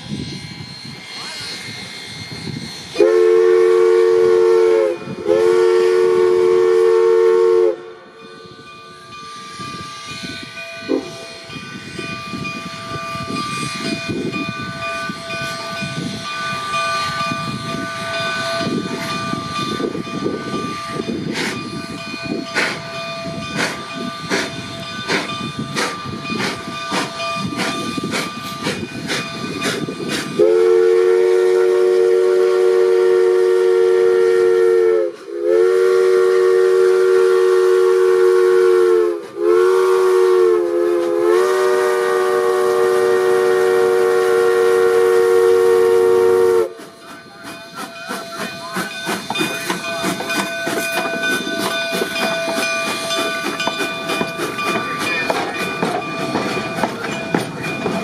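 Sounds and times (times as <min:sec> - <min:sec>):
steam hiss: 0:00.0 - 0:58.0
steam locomotive whistle: 0:00.0 - 0:58.0
locomotive exhaust beats: 0:02.4 - 0:58.0.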